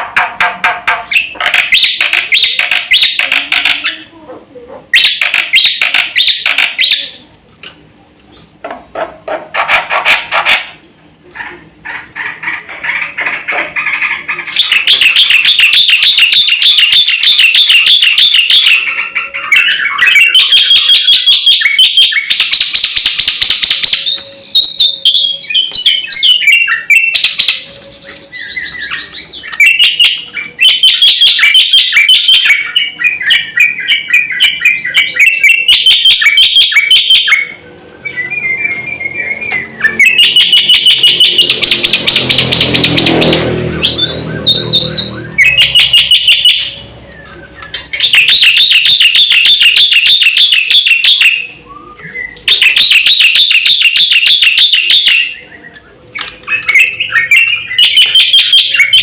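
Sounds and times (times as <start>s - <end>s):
starling singing: 0.0s - 4.2s, 4.8s - 7.3s, 8.4s - 59.0s.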